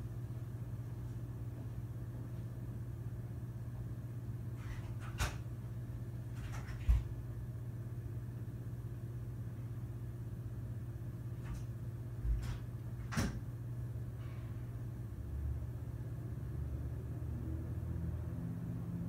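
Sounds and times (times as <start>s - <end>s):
low hum of room tone: 0.0s - 19.0s.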